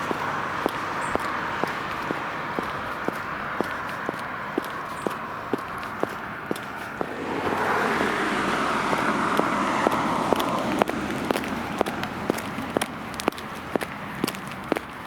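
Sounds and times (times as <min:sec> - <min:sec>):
car passing: 0:00.0 - 0:15.0
footsteps walking: 0:00.0 - 0:15.0.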